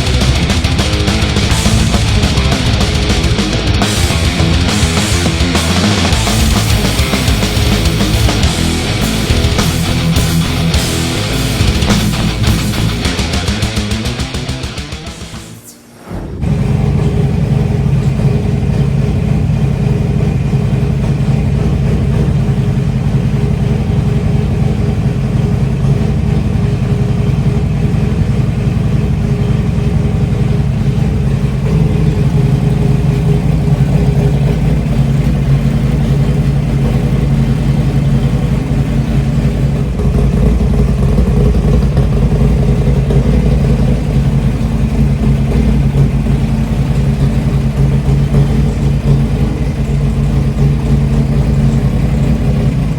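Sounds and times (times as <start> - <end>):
motorcycle engine running: 0.0 - 15.6, 16.5 - 52.9.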